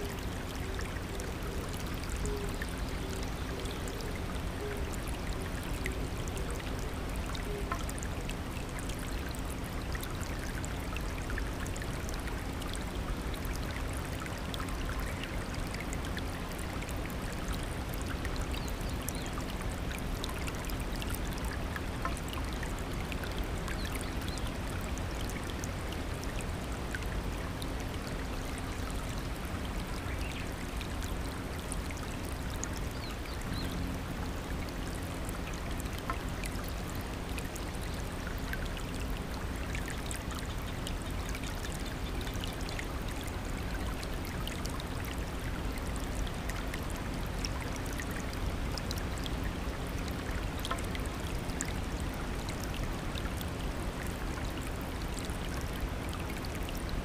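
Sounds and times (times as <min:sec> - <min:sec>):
stream babbling over stones: 0:00.0 - 0:57.0.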